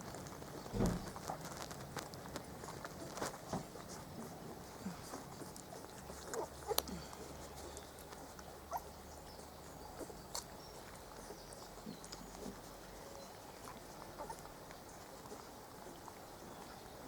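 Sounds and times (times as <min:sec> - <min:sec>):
puppies squeaking and whimpering: 0:02.7 - 0:16.8.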